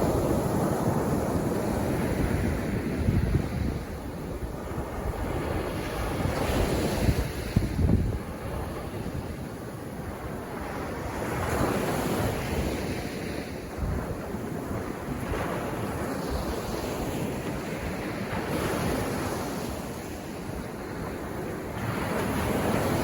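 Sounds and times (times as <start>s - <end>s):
sea surf breaking on beach: 0.0s - 23.0s
wind rumbling on microphone: 0.0s - 23.0s.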